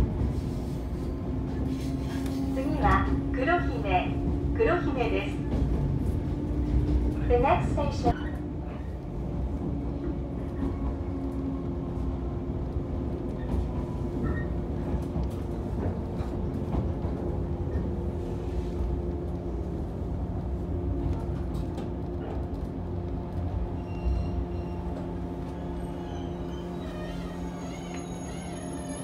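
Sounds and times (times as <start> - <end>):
train wheels rumbling: 0.0 - 29.0.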